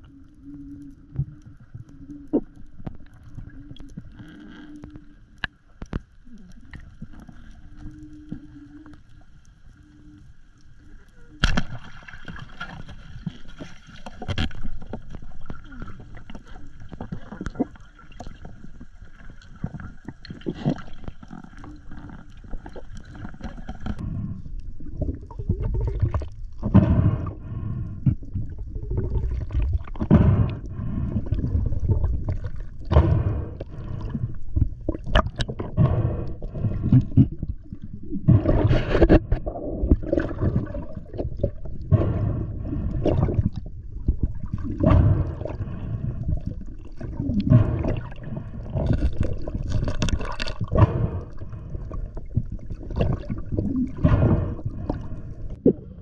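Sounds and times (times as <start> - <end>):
muffled underwater rushing water: 0.0 - 56.0.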